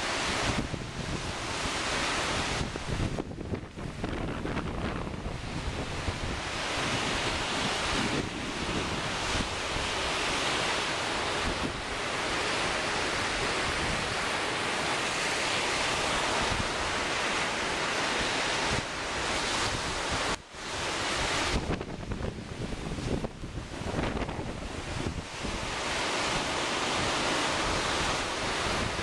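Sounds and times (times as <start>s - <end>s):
lake waves breaking on shore: 0.0s - 29.0s
strong wind buffeting microphone: 0.0s - 29.0s.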